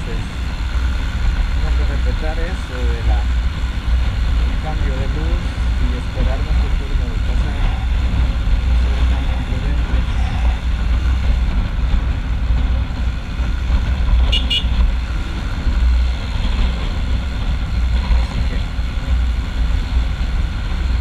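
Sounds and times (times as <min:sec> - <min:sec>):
motorcycle engine running: 0:00.0 - 0:21.0
wind over microphone: 0:00.0 - 0:21.0.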